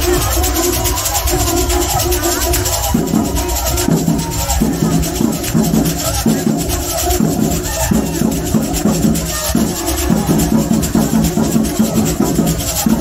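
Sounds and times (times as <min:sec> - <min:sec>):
bass drums: 0:00.0 - 0:13.0
snare drums: 0:00.0 - 0:13.0.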